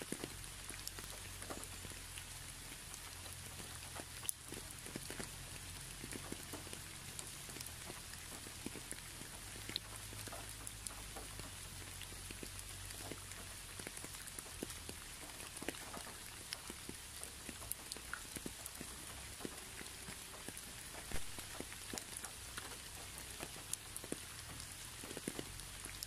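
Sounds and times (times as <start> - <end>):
rain falling: 0.0 - 26.0
raindrops ticking: 0.0 - 26.0.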